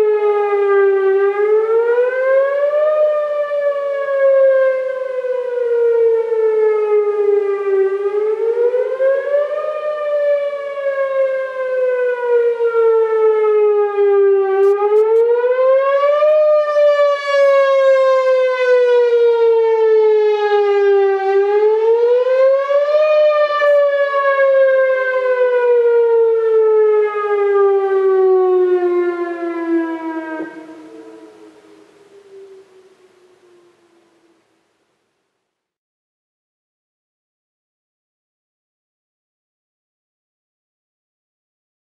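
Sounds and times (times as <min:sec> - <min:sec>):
warning siren wailing: 0:00.0 - 0:35.1.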